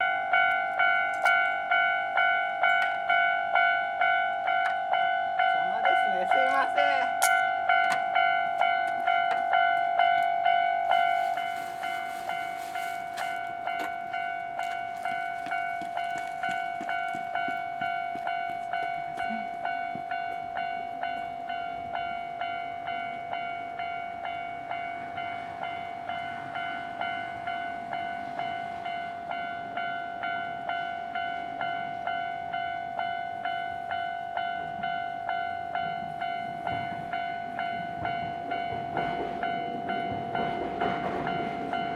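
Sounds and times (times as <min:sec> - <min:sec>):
level crossing warning bell: 0:00.0 - 0:41.9.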